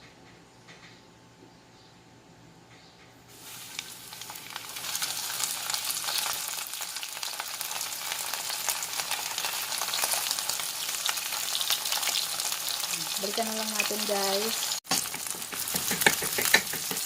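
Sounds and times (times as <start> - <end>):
fish frying in hot oil: 3.3 - 17.0.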